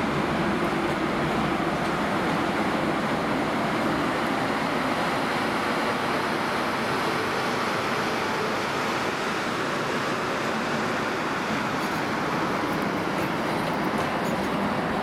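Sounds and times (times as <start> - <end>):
train passing with rushing noise: 0.0 - 15.0.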